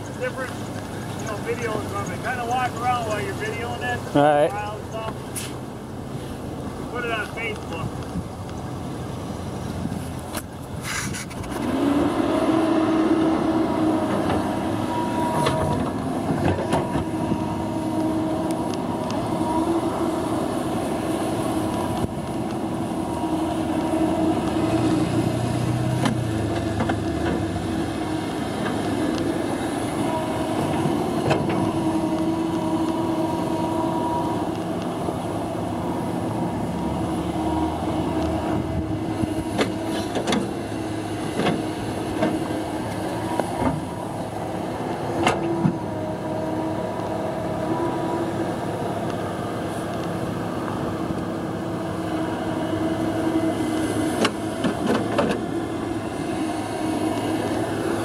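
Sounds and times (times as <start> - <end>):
excavator engine whining: 0.0 - 58.0.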